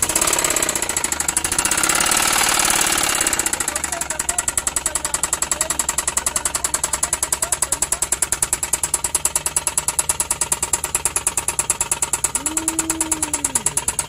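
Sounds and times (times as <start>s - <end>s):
engine idling with regular knock: 0.0s - 14.0s.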